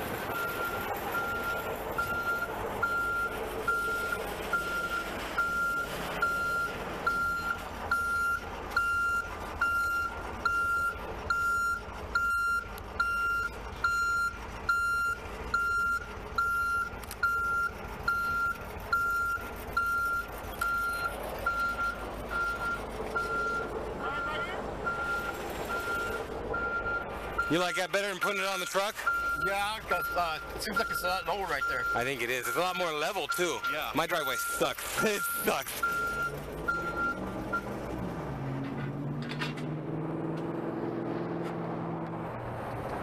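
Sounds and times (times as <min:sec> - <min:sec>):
vehicle engine running: 0:00.0 - 0:43.0
truck reverse alarm beeping: 0:00.1 - 0:38.6.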